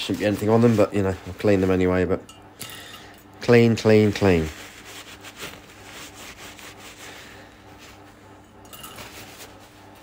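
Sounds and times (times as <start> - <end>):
cloth rag rubbing on metal: 0.0 - 2.2, 3.4 - 10.0.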